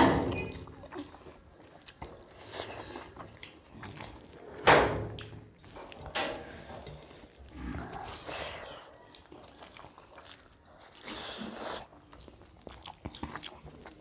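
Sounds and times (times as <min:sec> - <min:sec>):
chewing: 0:00.2 - 0:14.0.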